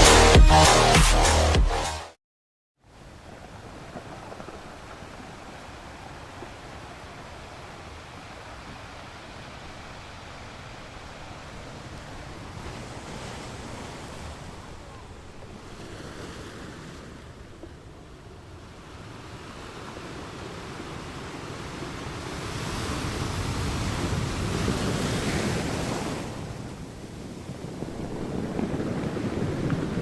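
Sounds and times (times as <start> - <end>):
sea waves washing ashore: 2.9 - 30.0.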